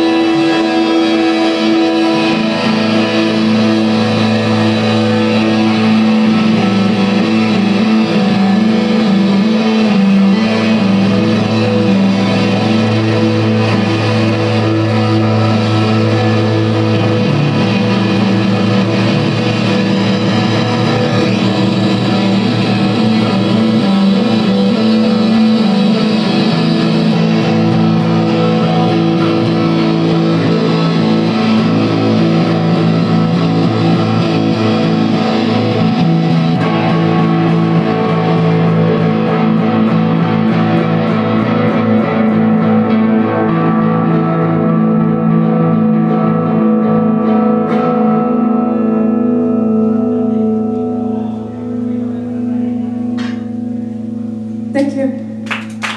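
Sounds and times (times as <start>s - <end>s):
droning electric guitar music: 0.0s - 55.9s.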